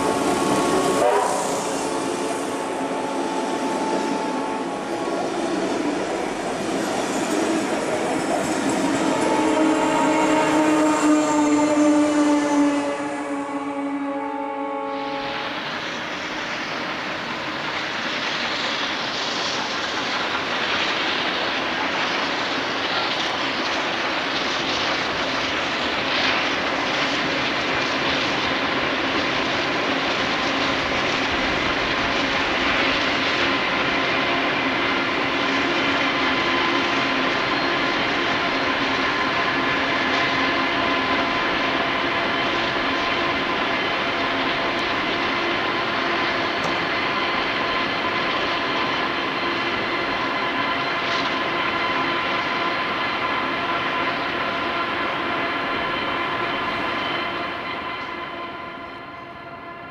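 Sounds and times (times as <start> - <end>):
steam locomotive roar: 0.0 - 59.9.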